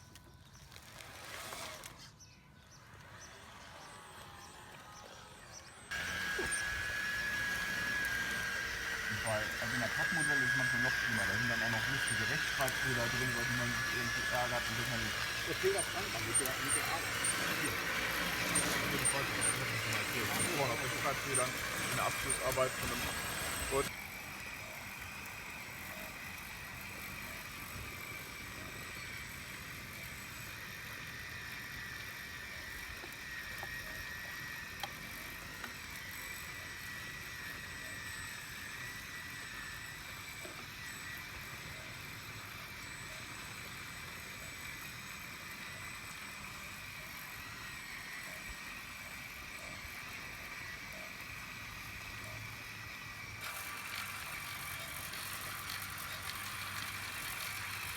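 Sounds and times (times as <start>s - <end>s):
small electric motors whining: 0.0s - 57.9s.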